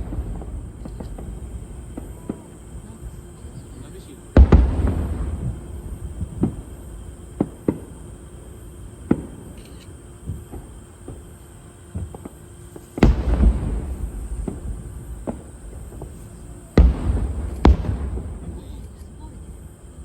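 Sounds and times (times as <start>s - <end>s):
big firework boom and rumble: 0.0s - 9.5s, 13.0s - 20.0s
fireworks bangs: 0.0s - 20.0s.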